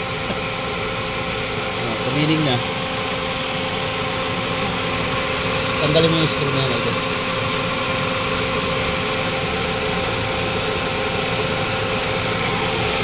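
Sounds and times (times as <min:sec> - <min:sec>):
car engine idling roughly: 0:00.0 - 0:13.0.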